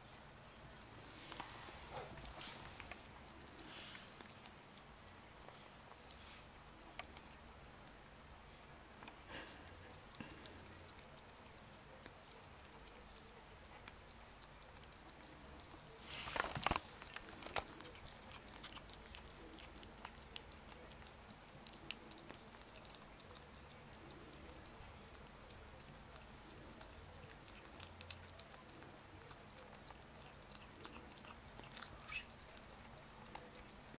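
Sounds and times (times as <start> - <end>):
cat chewing and licking: 0.0 - 33.9.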